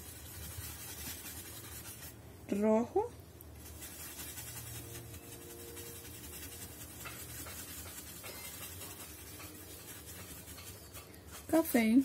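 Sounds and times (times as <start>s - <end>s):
paintbrush scratching on palette: 0.0s - 2.2s, 3.6s - 12.0s.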